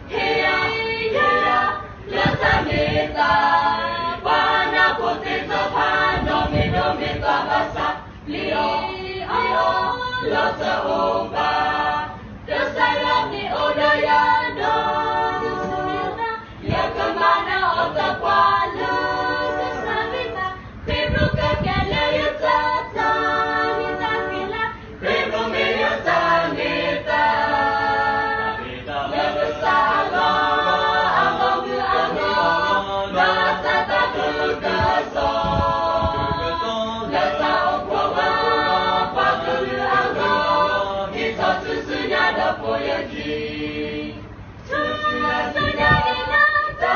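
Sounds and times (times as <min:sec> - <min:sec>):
group singing a cappella: 0:00.0 - 0:46.9.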